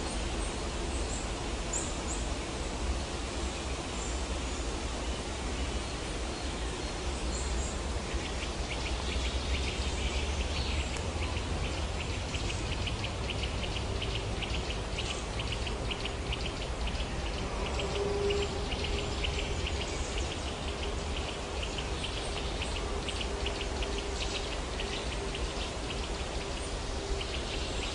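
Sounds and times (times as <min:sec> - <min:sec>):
noisy outdoor ambience: 0:00.0 - 0:27.9.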